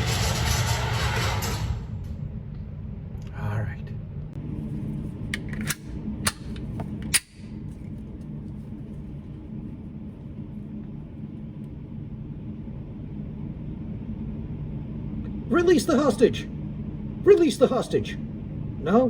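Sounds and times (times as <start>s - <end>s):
ventilation hum: 0.0s - 19.0s.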